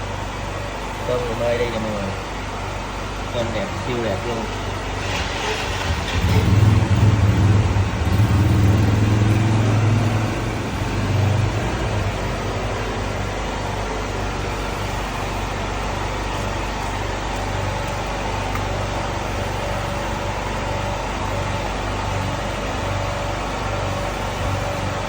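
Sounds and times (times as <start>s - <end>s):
motor running steadily: 0.0s - 25.0s.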